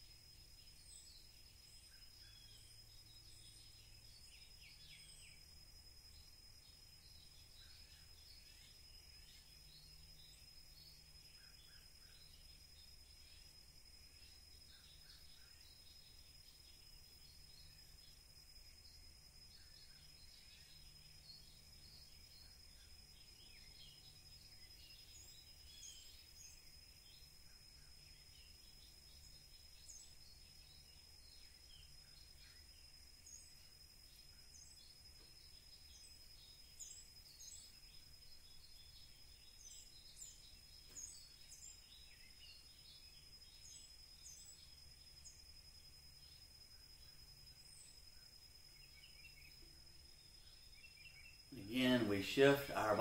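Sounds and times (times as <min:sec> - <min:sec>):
small bird chirps: 0:00.0 - 0:53.0
steady high whine: 0:00.0 - 0:53.0.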